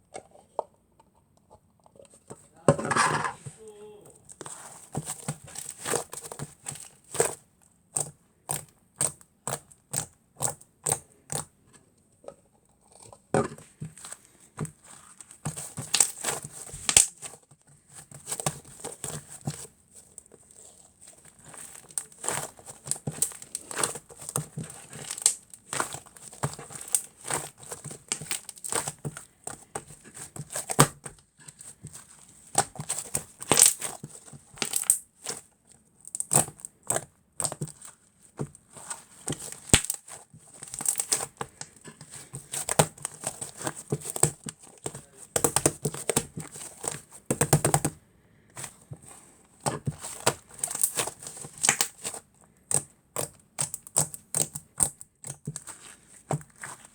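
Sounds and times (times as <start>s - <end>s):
slime squished by hand: 3.6s - 7.4s, 13.9s - 56.9s.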